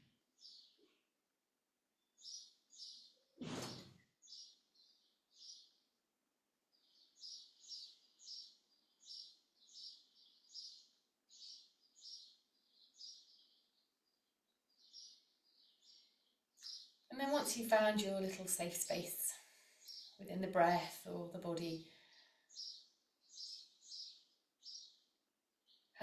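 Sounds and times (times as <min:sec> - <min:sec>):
faint bird chirping: 0:00.0 - 0:01.1, 0:02.0 - 0:26.0.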